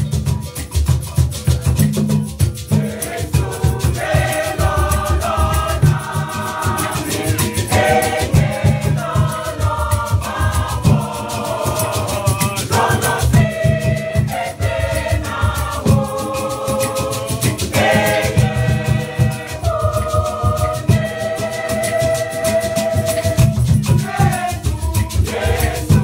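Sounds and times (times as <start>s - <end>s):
hand drums: 0.0s - 26.0s
rattles shaking: 0.0s - 26.0s
choir singing: 2.7s - 26.0s.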